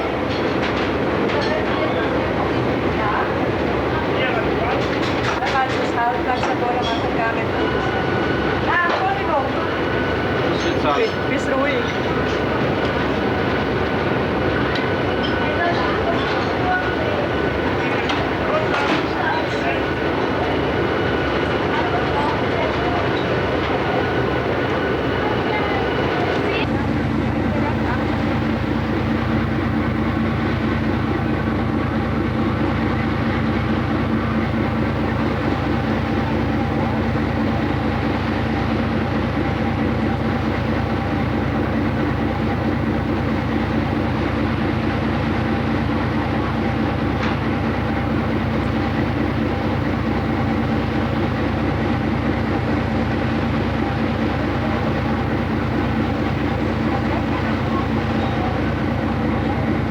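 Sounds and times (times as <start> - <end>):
ship engine droning: 0.0 - 59.9.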